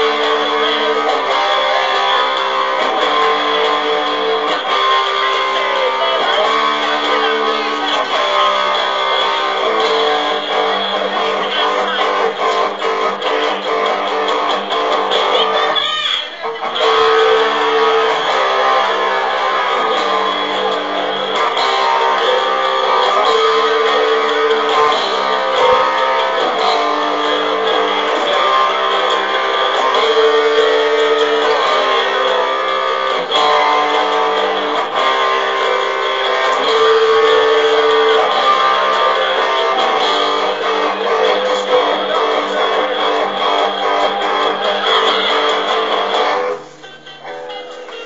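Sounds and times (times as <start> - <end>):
electric guitar strumming chords: 0.0 - 48.0.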